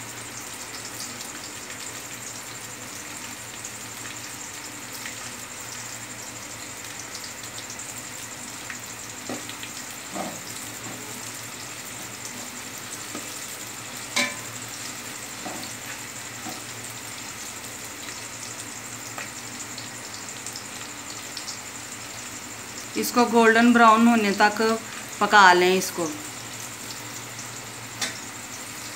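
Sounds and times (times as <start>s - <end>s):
onions sizzling in a pot: 0.0s - 28.9s.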